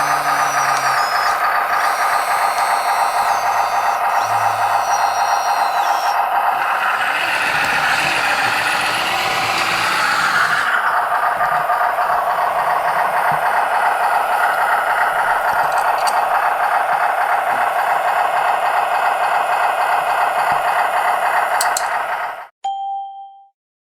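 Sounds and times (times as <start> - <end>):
toy bulldozer whirring rattle: 0.0 - 22.5.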